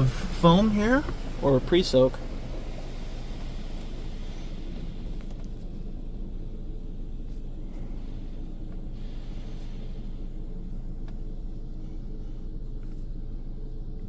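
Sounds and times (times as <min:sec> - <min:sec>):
car wash rumble and hum: 0:00.0 - 0:14.0.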